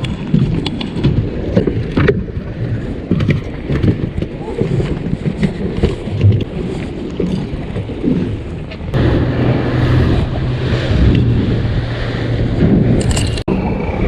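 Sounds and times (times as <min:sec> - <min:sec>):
boat engine running: 0:00.0 - 0:14.0
wind and water noise: 0:00.0 - 0:14.0.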